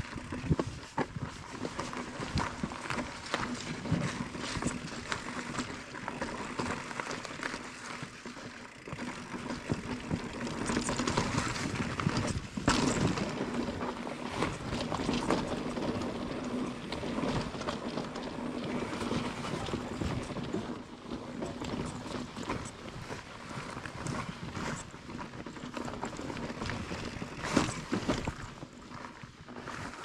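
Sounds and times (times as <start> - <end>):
bike rattling and clicking: 0.0 - 30.0
bike tyres rolling over stones: 0.0 - 30.0.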